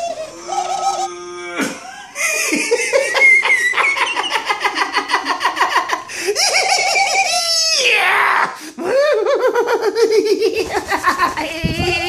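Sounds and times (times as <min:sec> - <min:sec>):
person laughing hard: 0:00.0 - 0:07.8, 0:08.8 - 0:12.0.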